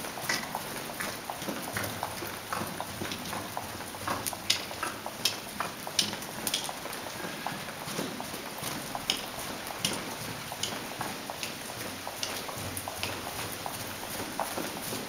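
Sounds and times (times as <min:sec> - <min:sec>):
hoofbeats on sand: 0:00.0 - 0:15.0.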